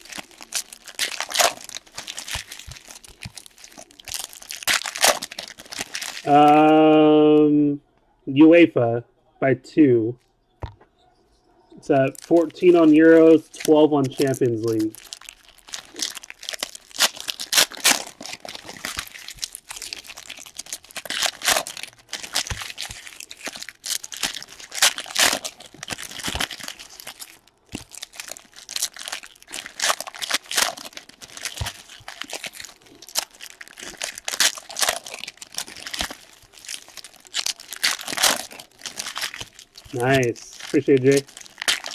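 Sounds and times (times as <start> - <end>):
wrappers torn open and crinkled: 0.0 - 7.0, 11.9 - 41.9.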